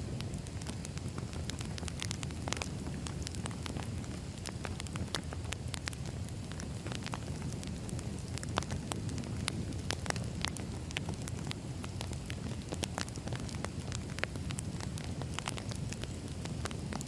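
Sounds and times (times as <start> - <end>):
firewood crackling and popping: 0.0 - 17.0
low rumble of fire: 0.0 - 17.0.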